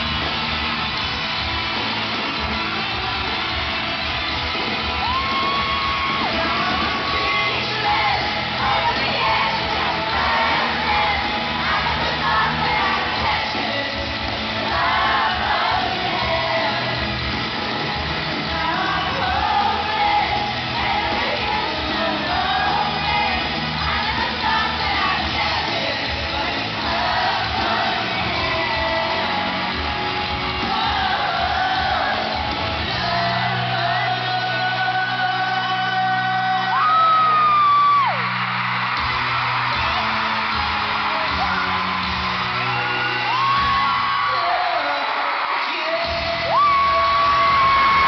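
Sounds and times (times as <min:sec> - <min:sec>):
lead voice singing: 0:00.0 - 0:38.3, 0:39.6 - 0:48.0
crowd screaming and shouting: 0:00.0 - 0:48.0
pop-rock band playing live: 0:00.0 - 0:48.0.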